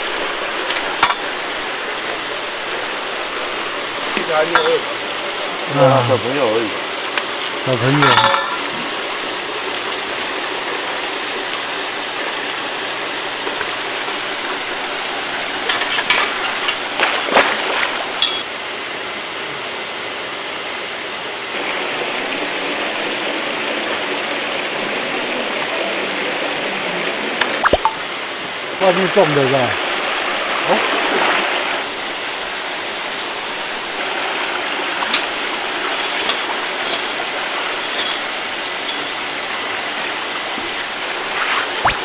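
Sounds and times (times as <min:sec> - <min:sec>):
water rushing and splashing: 0:00.0 - 0:42.0.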